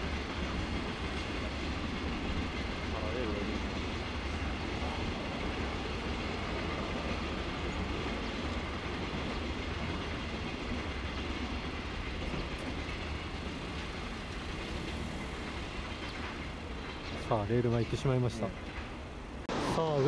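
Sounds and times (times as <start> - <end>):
train wheels rolling on track: 0.0 - 20.0.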